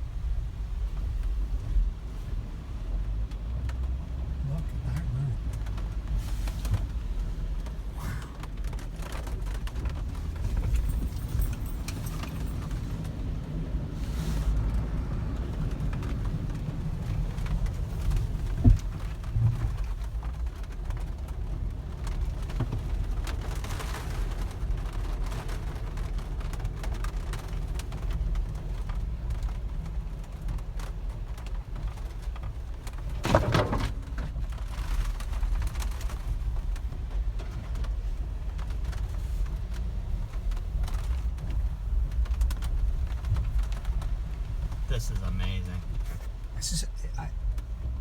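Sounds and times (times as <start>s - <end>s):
car rumble from inside cabin: 0.0s - 48.0s.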